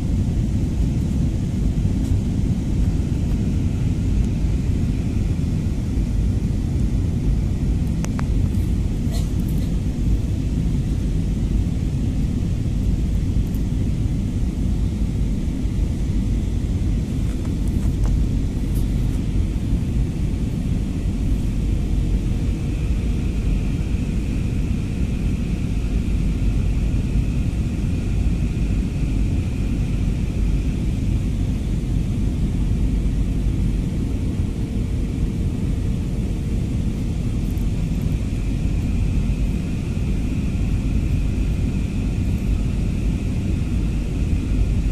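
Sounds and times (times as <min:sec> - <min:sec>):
airliner cabin rumble: 0:00.0 - 0:44.9
faint high whine: 0:00.0 - 0:44.9.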